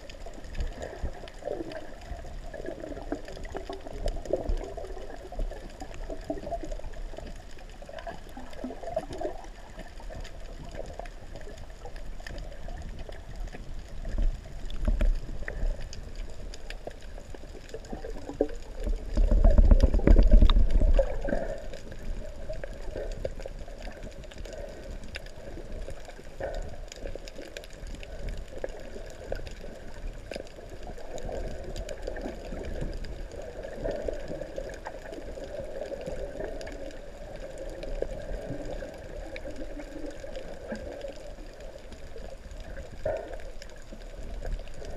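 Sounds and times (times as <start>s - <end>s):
muffled underwater wash and gurgle: 0.0s - 44.9s
water rushing and crackling: 0.0s - 44.9s.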